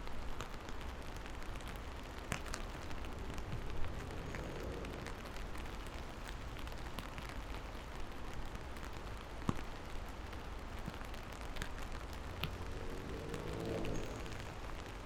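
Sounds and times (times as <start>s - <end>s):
rain drops ticking on a surface: 0.0s - 15.0s.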